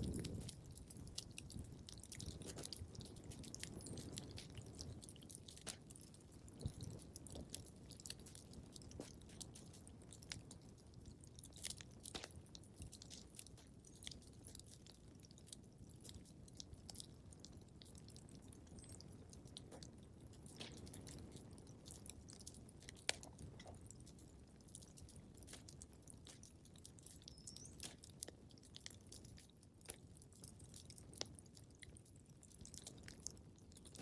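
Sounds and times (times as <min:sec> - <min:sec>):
low rumble of burning: 0:00.0 - 0:34.0
wood fire crackling: 0:00.0 - 0:34.0.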